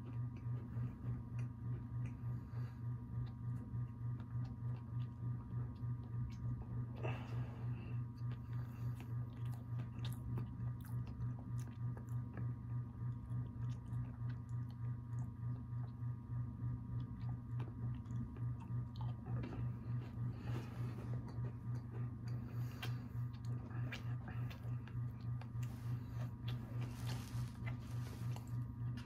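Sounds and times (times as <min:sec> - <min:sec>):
chewing and biting cookie: 0:00.0 - 0:29.0
low pulsing hum: 0:00.0 - 0:29.0.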